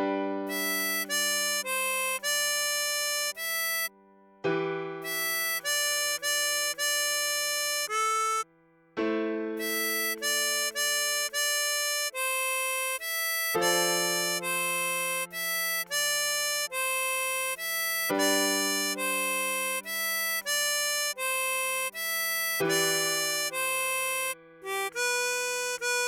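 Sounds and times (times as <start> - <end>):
tremolo harmonica melody: 0.5 - 3.9, 5.0 - 8.5, 9.6 - 26.0.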